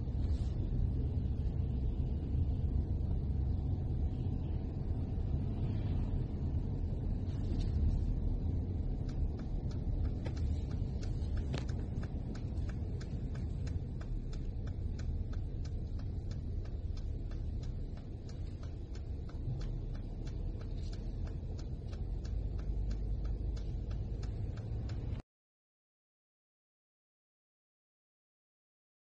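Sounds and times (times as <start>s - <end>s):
car engine and tyres rumbling: 0.0s - 25.2s
light regular ticking: 0.1s - 25.2s.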